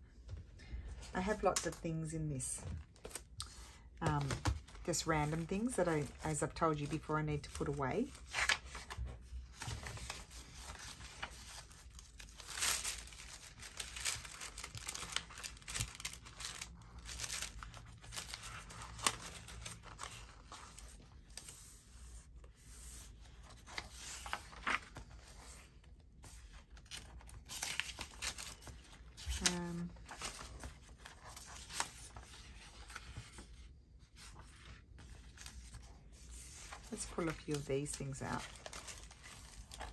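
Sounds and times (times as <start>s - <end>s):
paper rustling and crinkling: 2.8s - 39.9s.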